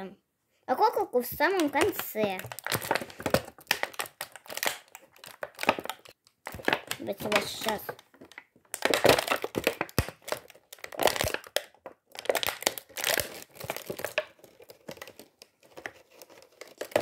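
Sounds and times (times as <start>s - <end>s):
plastic packaging crinkling: 1.4s - 17.0s.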